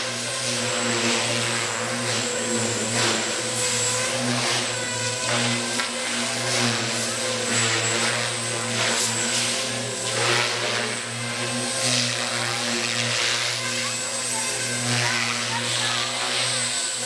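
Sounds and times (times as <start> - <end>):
electric motor whine: 0.0 - 17.0
helicopter rotor blades whooshing: 0.0 - 17.0.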